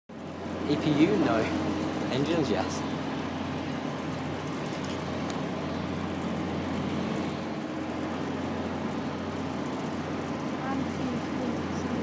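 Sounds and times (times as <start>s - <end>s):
distant jet engines running: 0.1s - 12.0s.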